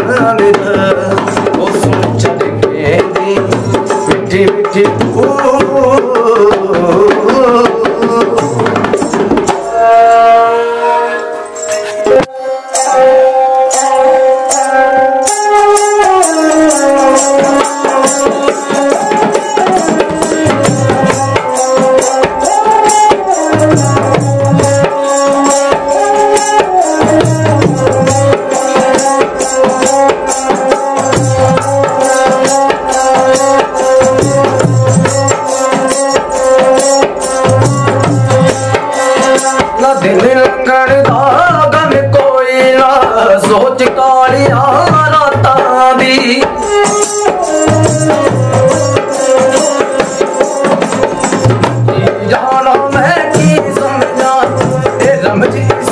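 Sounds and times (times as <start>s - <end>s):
hand drum steady rhythm: 0.0s - 10.2s, 13.6s - 55.9s.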